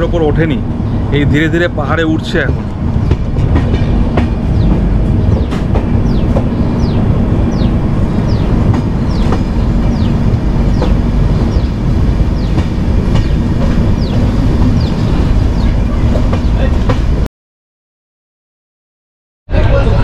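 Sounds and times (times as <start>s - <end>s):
train wheels rumbling on rails: 0.0s - 17.3s.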